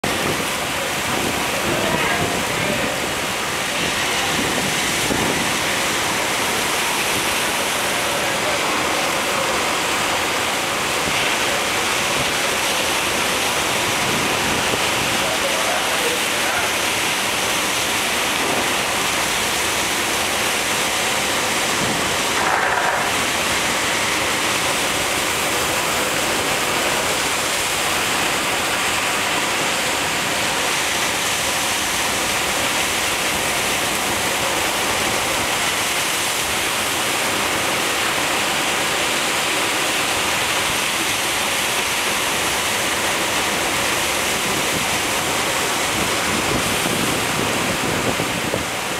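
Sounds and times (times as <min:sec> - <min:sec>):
ocean surf breaking on rocks: 0:00.0 - 0:48.9.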